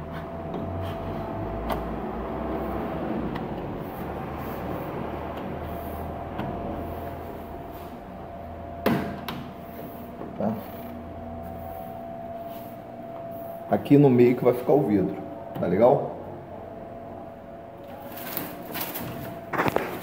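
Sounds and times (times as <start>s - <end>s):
faint whine: 0.0s - 20.0s
low hum: 0.0s - 20.0s.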